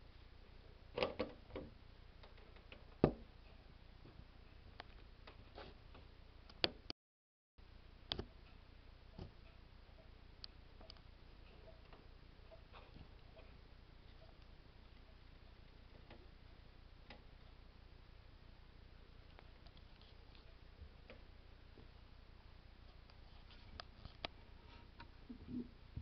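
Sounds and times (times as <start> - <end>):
faint steady hiss: 0.0 - 6.9, 7.6 - 26.0.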